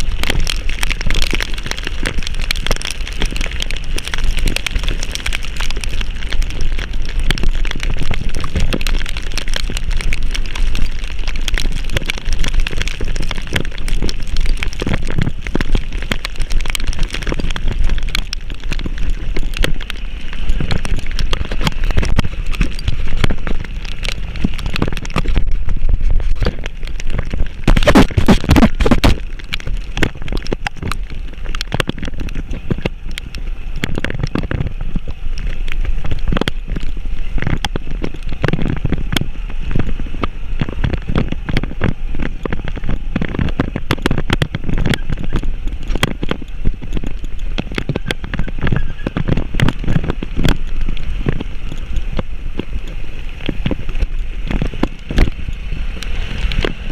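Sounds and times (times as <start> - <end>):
road and engine noise: 0.0 - 56.9.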